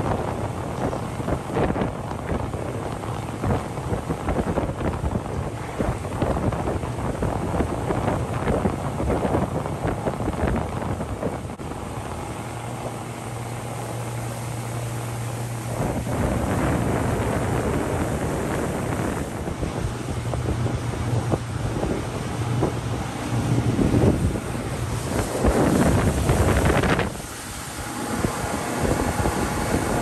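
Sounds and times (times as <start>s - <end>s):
outboard motor humming: 0.0s - 30.0s
wind buffeting microphone: 0.0s - 30.0s.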